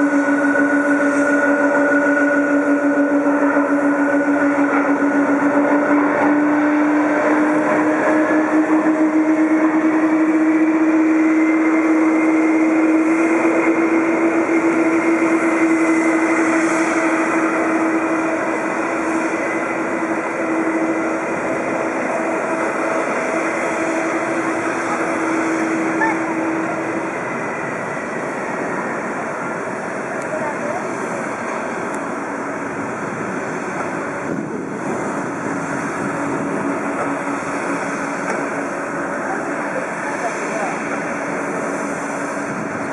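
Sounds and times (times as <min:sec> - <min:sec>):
engine noise rush: 0:00.0 - 0:42.9
jet engine whine: 0:00.0 - 0:42.9.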